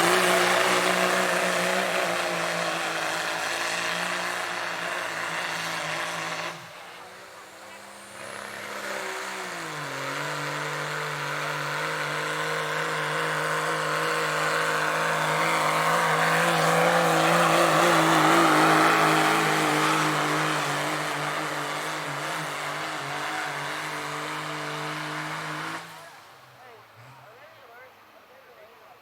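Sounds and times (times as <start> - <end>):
diesel truck engine at high revs: 0.0 - 29.0.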